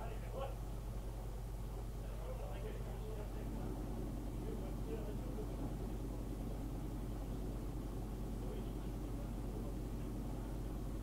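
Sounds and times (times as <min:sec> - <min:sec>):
low hum: 0:00.0 - 0:11.0
faint indistinct voices: 0:01.7 - 0:11.0.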